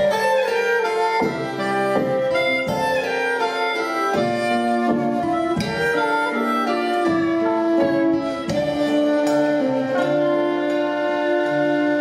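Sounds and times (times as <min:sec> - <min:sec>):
harmonica melody: 0:00.0 - 0:12.0.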